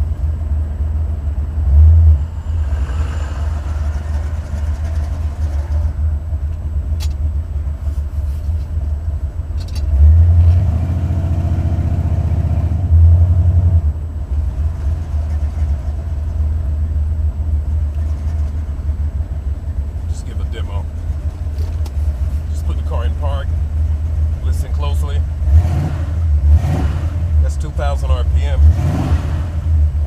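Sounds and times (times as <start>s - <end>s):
car engine running and revving: 0.0s - 30.0s.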